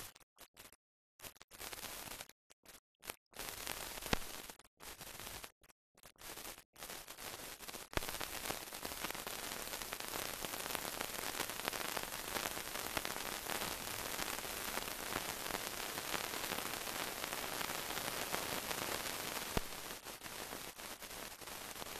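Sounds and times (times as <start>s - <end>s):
film soundtrack hiss and crackle: 0.0s - 21.9s.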